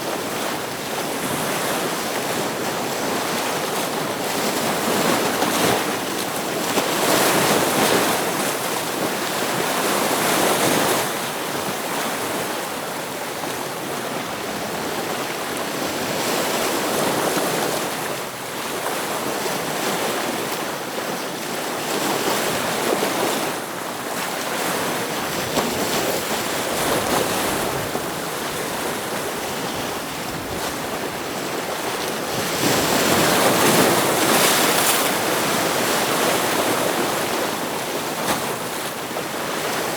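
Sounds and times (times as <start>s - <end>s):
ocean waves breaking on rocks: 0.0s - 39.9s.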